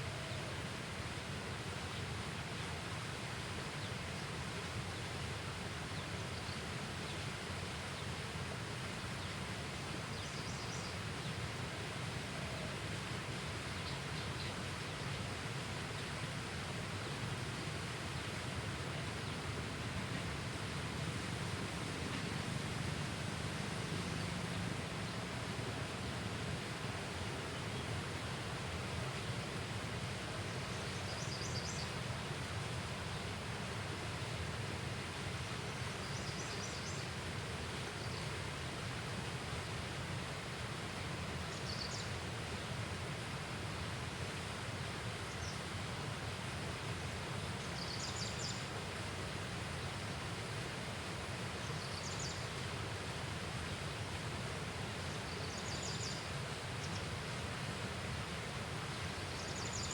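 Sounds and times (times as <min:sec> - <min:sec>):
river rushing: 0:11.0 - 0:59.9.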